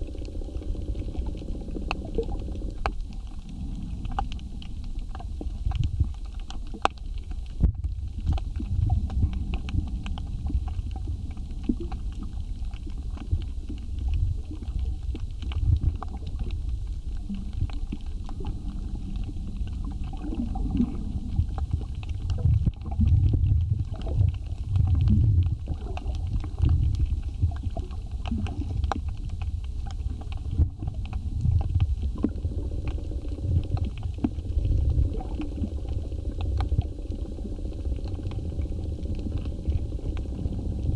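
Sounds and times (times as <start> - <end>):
low rumble of water movement: 0.0 - 40.9
steady low hum: 0.0 - 40.9
underwater clicks and crackles: 0.0 - 40.9.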